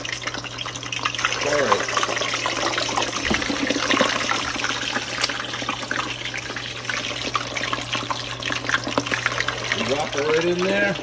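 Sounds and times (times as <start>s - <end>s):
chicken wings deep-frying in oil: 0.0s - 11.0s.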